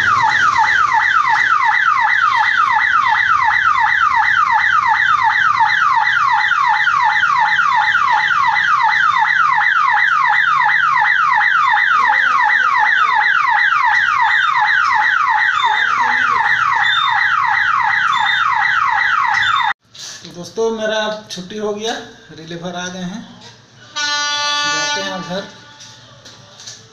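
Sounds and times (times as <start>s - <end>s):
level crossing warning siren: 0.0s - 19.8s, 23.9s - 25.9s.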